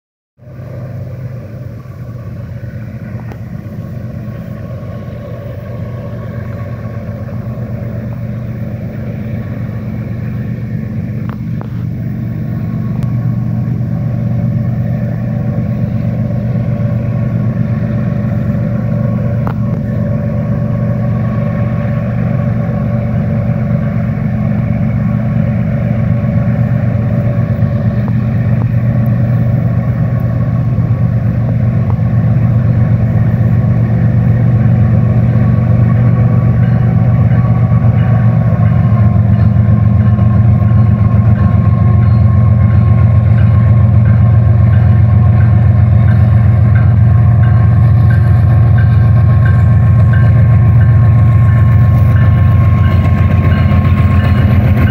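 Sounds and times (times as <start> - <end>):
locomotive diesel engines droning: 0.4 - 54.9.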